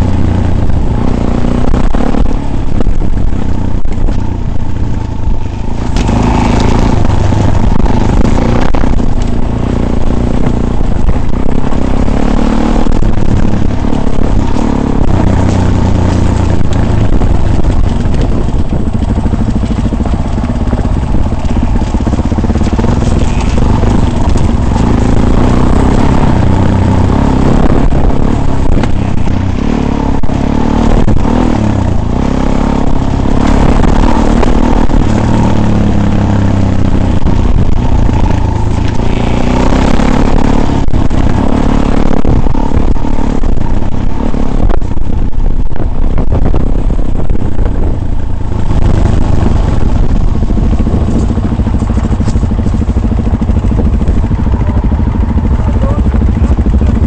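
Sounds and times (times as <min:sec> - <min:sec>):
rattling noise: 0:00.0 - 0:57.0
vehicle engine driving off-road: 0:00.0 - 0:57.0.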